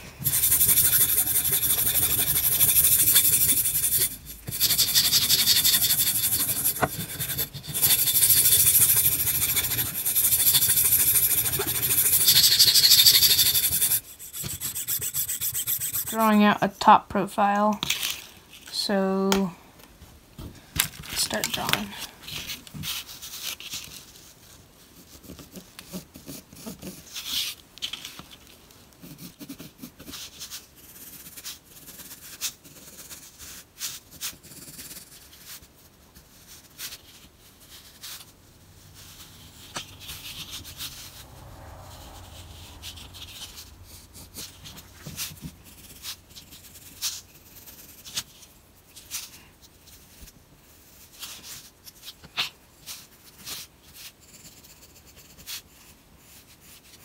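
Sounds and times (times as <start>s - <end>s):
pencil scratching on wood: 0.2s - 16.5s, 21.2s - 28.1s, 29.0s - 38.3s, 38.9s - 57.0s.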